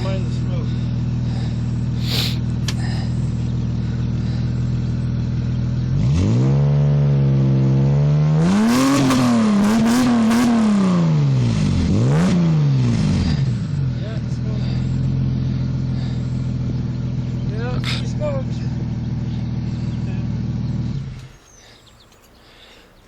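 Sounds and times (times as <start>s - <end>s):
car engine idling and revving: 0.0s - 22.8s.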